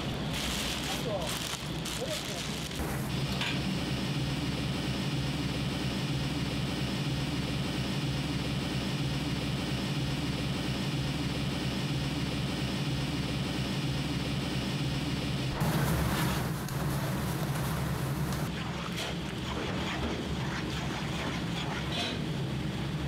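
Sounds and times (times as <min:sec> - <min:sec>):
gas burner roaring: 0:00.0 - 0:23.0.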